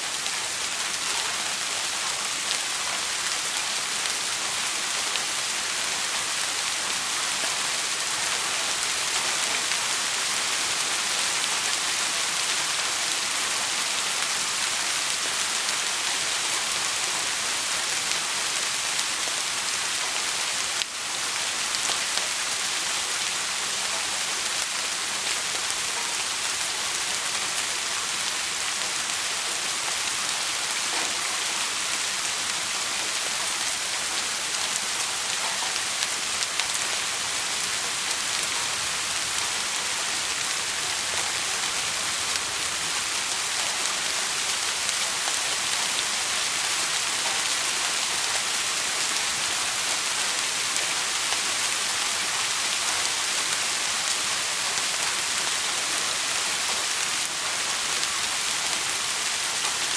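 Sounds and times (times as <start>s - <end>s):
heavy rainfall hiss: 0.0s - 59.9s.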